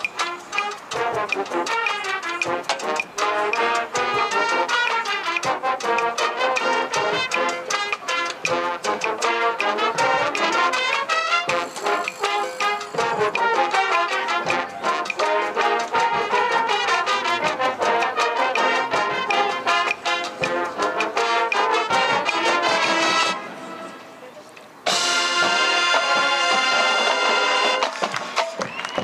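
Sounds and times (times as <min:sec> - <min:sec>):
marching band brass and percussion: 0:00.0 - 0:29.0.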